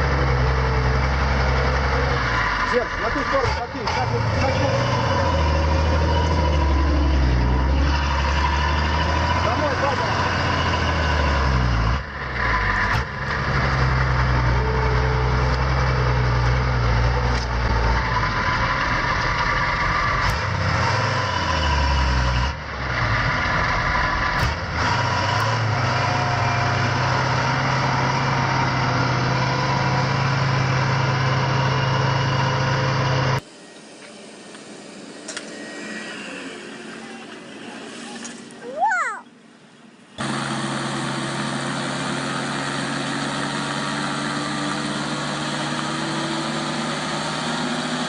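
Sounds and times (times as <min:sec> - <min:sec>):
heavy vehicle engine revving: 0:00.0 - 0:33.4, 0:40.2 - 0:48.0.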